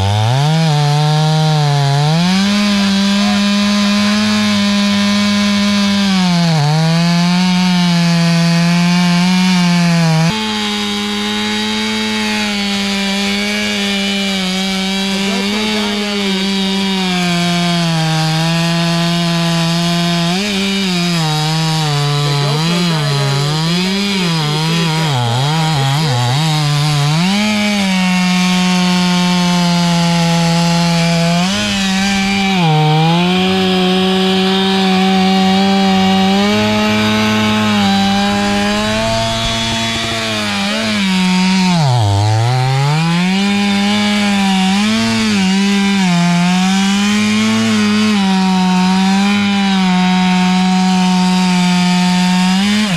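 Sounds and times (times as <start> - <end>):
chainsaw cutting through wood: 0.0 - 52.9.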